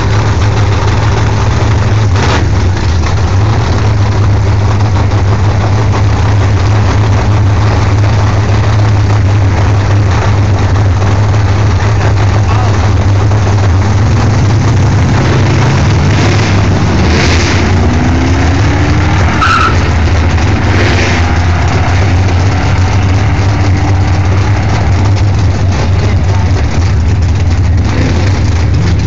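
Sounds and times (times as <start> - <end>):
steady low rumble: 0.0 - 29.0
truck engine accelerating: 0.0 - 29.0.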